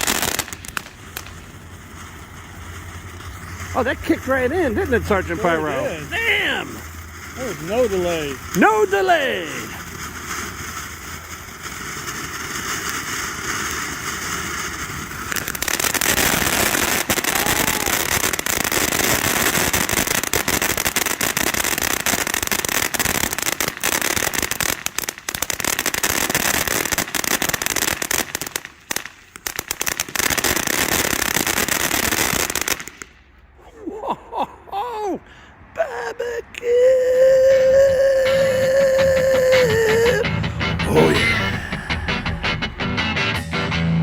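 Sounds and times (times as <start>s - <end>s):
firework fountain hissing: 0.0s - 43.7s
firework dense crackling: 0.0s - 44.0s.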